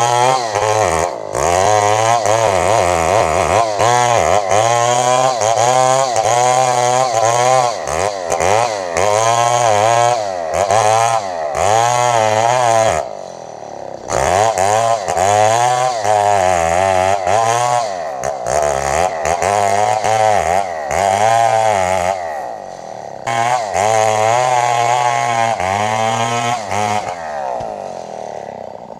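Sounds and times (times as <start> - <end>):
chainsaw cutting log: 0.0 - 28.9.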